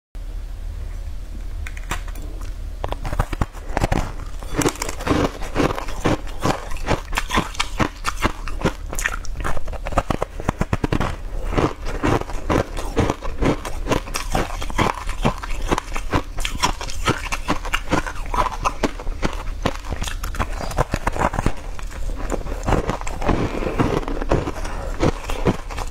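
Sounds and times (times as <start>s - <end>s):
crunching and chewing: 1.7s - 25.9s.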